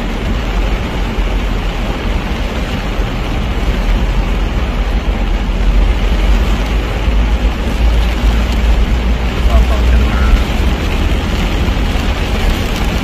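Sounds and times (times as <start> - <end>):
car driving through floodwater: 0.0 - 13.0
heavy rain: 0.0 - 13.0
road and engine rumble: 0.0 - 13.0.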